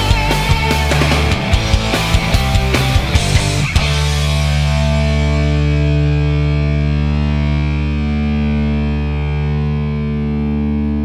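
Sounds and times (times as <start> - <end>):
distorted electric guitar chord: 0.0 - 11.0.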